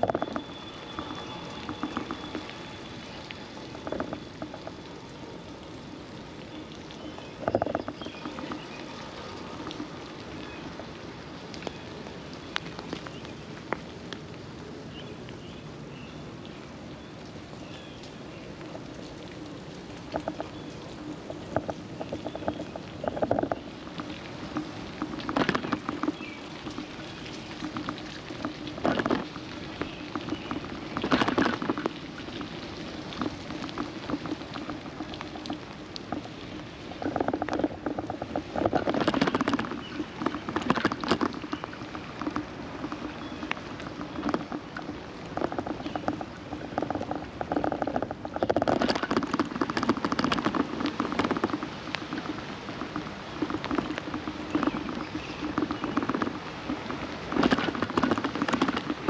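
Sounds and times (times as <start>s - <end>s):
rain pattering on camera: 0.0s - 59.0s.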